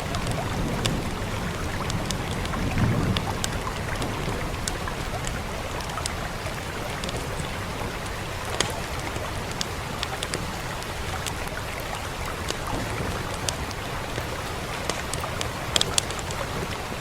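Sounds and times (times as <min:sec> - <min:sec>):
wood fire crackling and popping: 0:00.0 - 0:16.9
steady rain hiss: 0:00.0 - 0:17.0.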